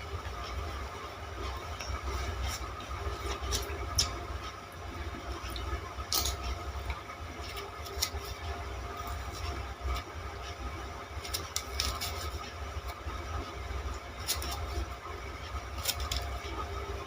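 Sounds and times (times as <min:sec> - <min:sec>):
chewing sugar cane crunching: 0:01.8 - 0:04.5, 0:05.2 - 0:16.9.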